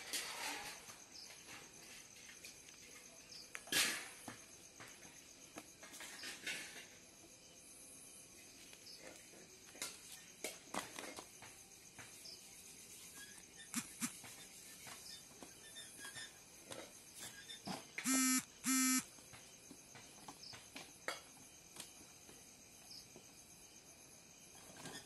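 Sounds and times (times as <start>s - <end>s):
night insects chirping: 0.3s - 10.6s, 11.3s - 25.0s.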